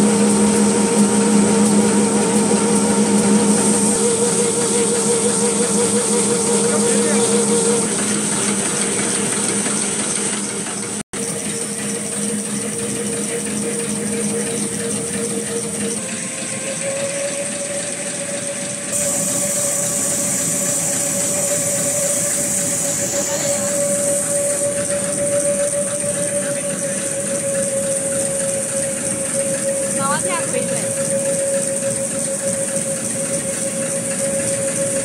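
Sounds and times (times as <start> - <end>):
machine mechanical hum: 0.0 - 35.0
machine whine: 0.0 - 35.0.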